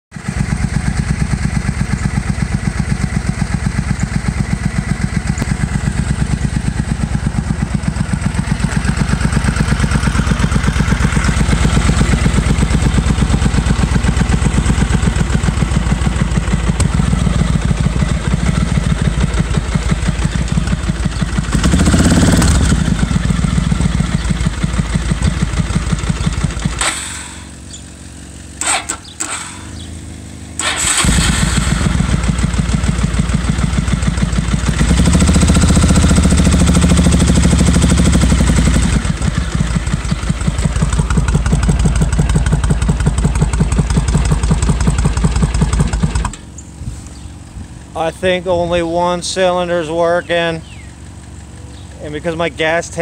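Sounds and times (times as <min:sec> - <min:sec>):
motorcycle engine running: 0:00.1 - 0:53.0.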